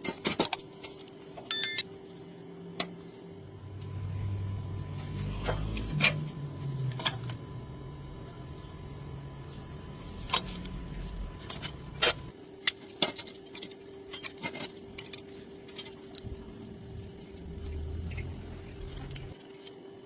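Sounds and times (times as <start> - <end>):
low steady hum: 0.8 - 19.5.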